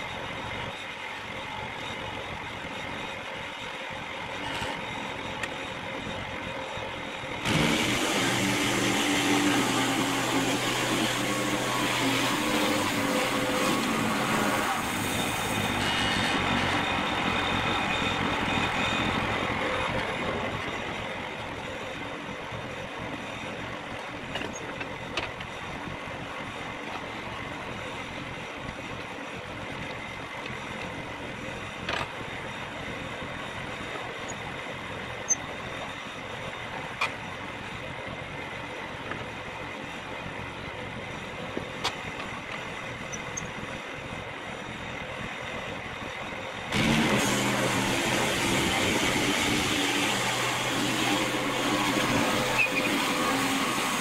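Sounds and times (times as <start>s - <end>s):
engine running: 4.3s - 54.0s.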